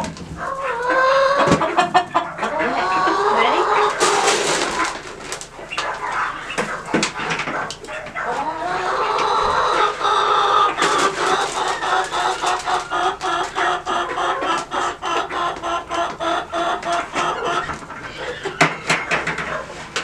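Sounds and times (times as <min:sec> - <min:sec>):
chickens clucking: 0:00.0 - 0:20.0
rapid repeated clucks: 0:00.0 - 0:20.0.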